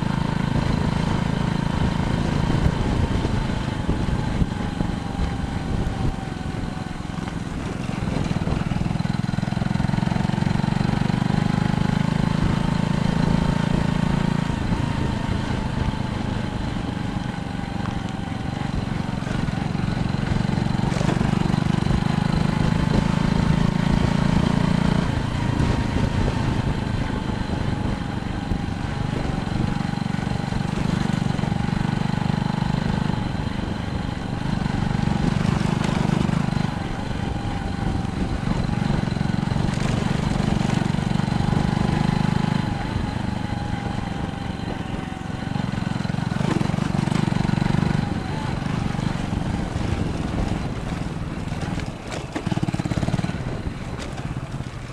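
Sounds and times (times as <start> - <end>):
bicycle tyre rumble on road: 0.0 - 54.9
wind rushing over microphone: 0.0 - 54.9.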